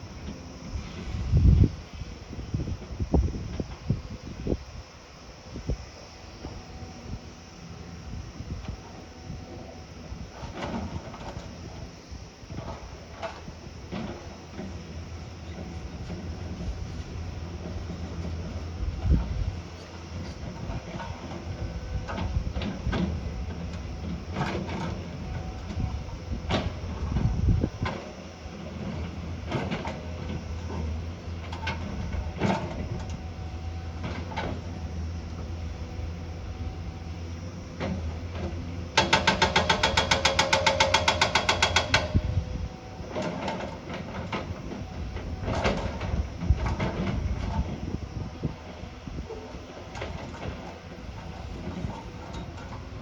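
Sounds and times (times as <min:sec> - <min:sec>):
diesel engine rumbling: 0:06.4 - 0:53.0.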